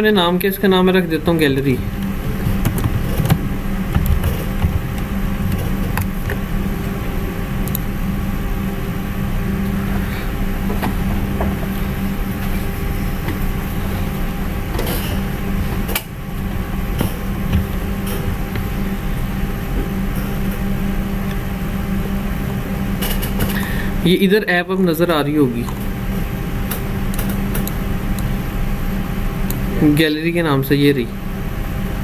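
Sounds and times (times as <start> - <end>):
low background hum: 0.0 - 32.0.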